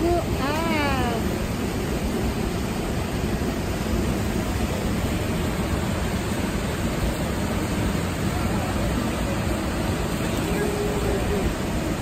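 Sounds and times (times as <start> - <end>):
river water rushing over weir: 0.0 - 12.0.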